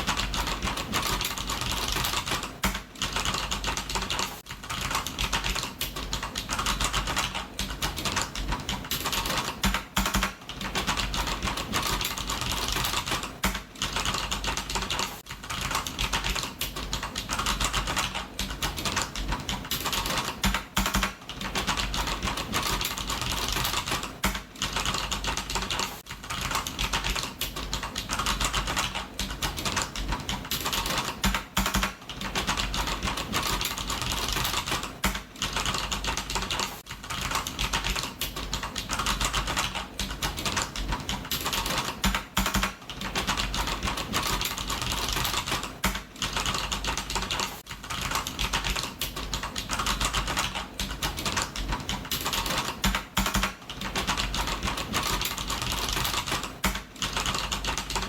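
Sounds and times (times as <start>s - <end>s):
typing on computer keyboard: 0.0s - 58.0s.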